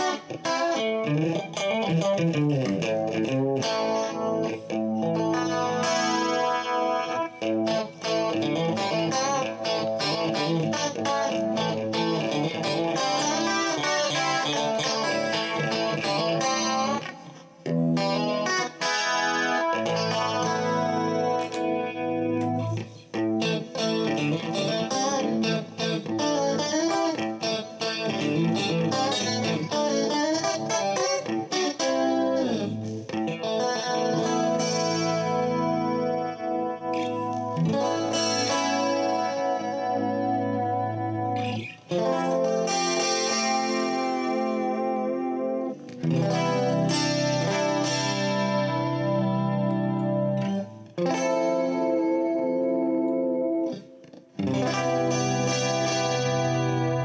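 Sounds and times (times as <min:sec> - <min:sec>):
clean electric guitar: 0:00.0 - 0:57.0.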